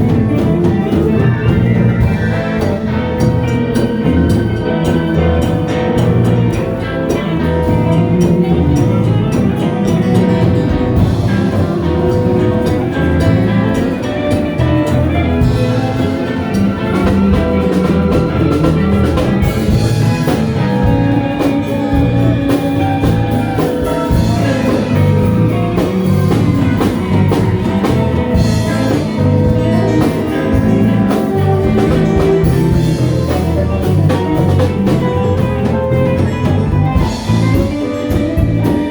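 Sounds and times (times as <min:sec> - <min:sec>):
band playing instrumental music: 0:00.0 - 0:38.9.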